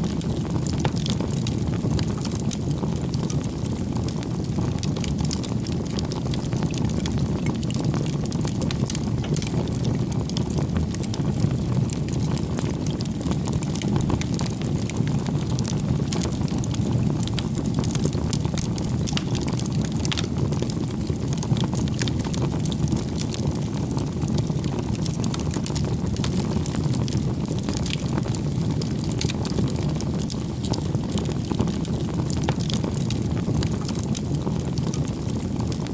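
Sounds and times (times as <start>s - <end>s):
bonfire rumble: 0.0s - 35.9s
fire crackling and popping: 0.0s - 35.9s.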